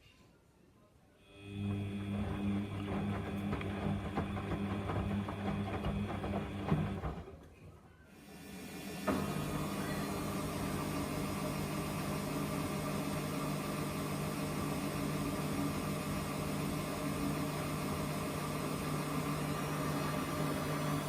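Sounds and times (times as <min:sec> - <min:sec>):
washing machine humming: 0:01.4 - 0:07.5, 0:08.2 - 0:21.0.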